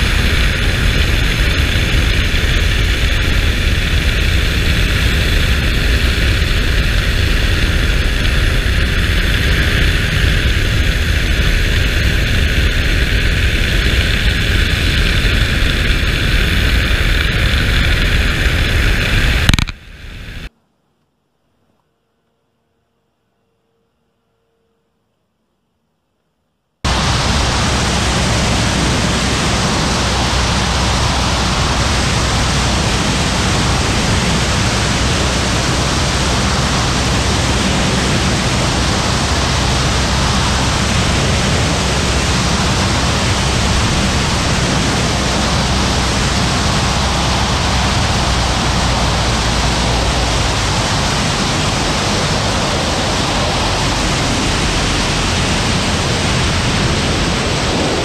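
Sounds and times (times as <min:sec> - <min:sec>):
wind rushing over camera: 0:00.0 - 0:20.5, 0:26.8 - 0:58.0
plane engine drone: 0:00.0 - 0:20.6, 0:26.8 - 0:58.0.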